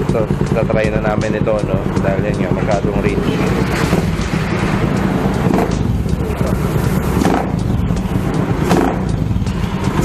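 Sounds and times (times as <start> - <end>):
motorcycle engine throttle blips: 0.0 - 10.0.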